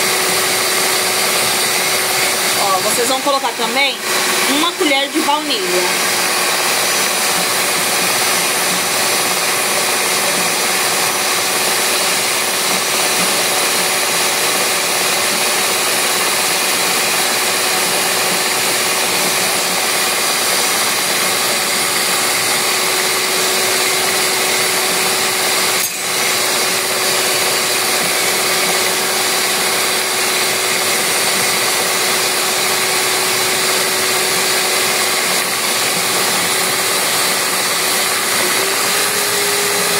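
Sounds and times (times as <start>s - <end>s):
stand mixer whisking batter: 0.0s - 39.9s.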